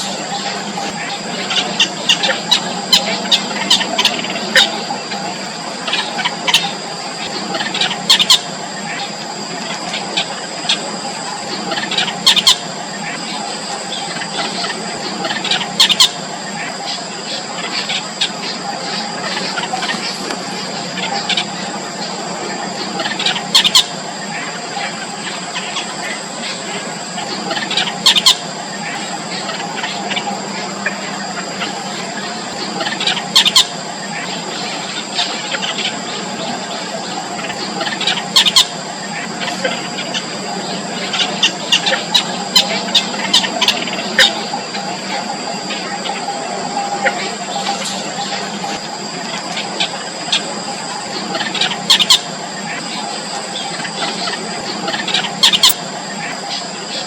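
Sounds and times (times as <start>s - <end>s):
nestlings squealing calls: 0.0s - 57.0s.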